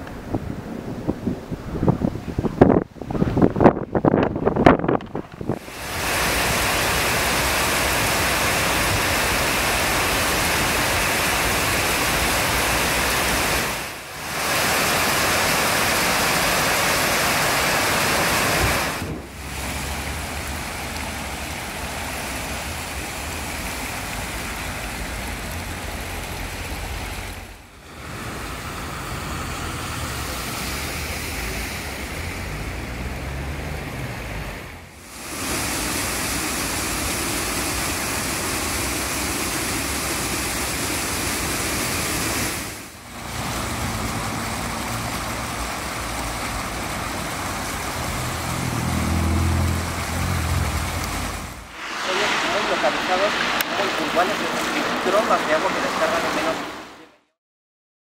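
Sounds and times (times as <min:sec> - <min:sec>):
water pouring into storm drain: 0:05.3 - 0:57.0
water welling from drain: 0:05.4 - 0:34.1, 0:34.8 - 0:57.0
car splashing through floodwater: 0:05.4 - 0:57.2.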